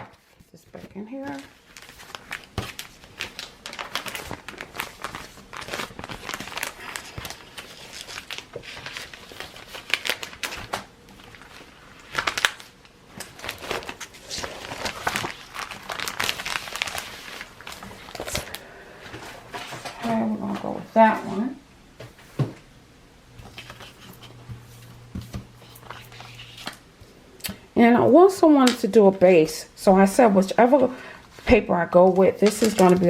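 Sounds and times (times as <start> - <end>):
paper rustling and crinkling: 0.0 - 21.3, 23.3 - 27.2, 30.6 - 33.0.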